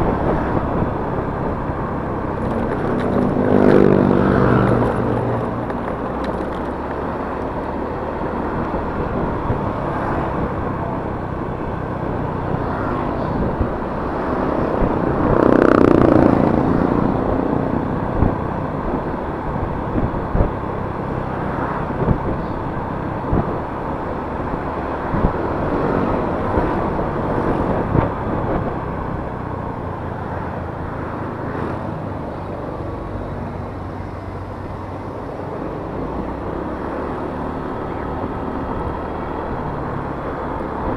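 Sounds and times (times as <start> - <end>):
road noise: 0.0 - 40.9
scooter engine hum: 0.0 - 40.9
wind: 0.0 - 40.9.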